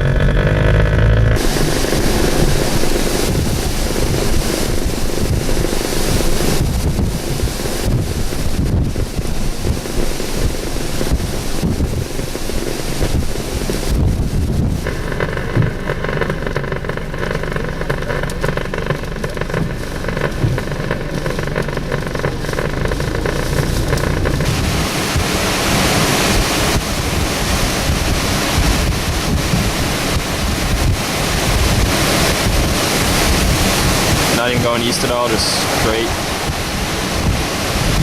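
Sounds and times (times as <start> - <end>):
strong wind buffeting microphone: 0.0 - 38.0.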